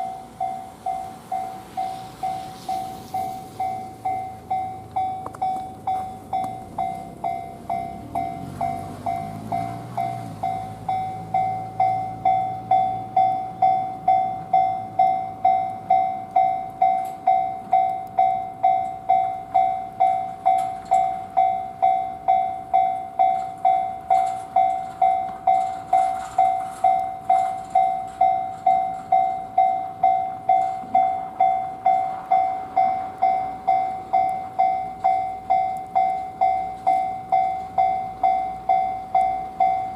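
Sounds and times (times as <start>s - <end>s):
level crossing alarm bell: 0.0s - 39.9s.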